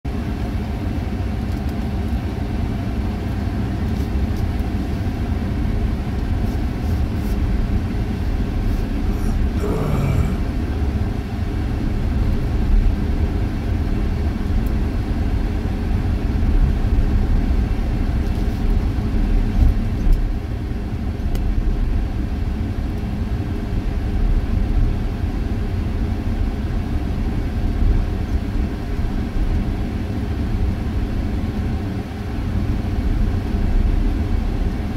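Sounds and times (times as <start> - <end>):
engine and tyre rumble: 0.0 - 34.9.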